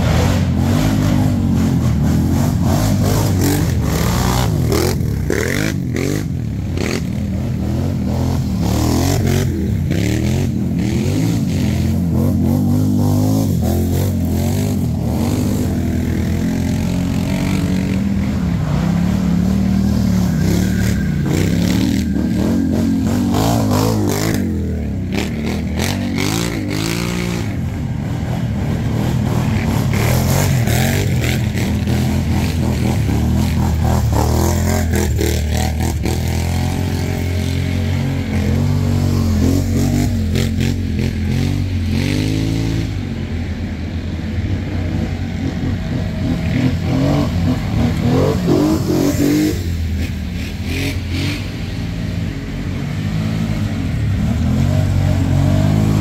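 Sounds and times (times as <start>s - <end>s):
atv engine revving: 0.0s - 43.4s, 44.3s - 56.0s.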